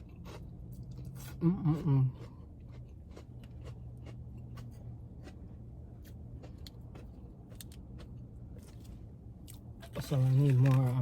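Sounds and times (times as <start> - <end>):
chewing crunchy fried food: 0.0 - 11.0
steady low hum: 0.0 - 11.0.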